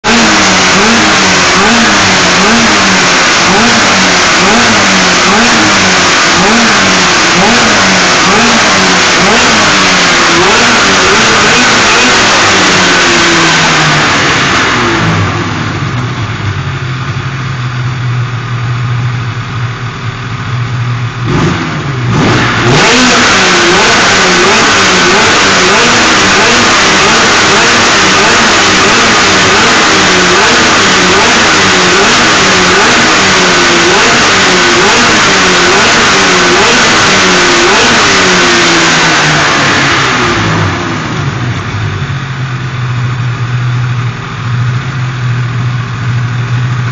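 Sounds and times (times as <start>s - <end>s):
two-stroke snowmobile engine revving: 0.0s - 17.2s, 20.8s - 46.9s.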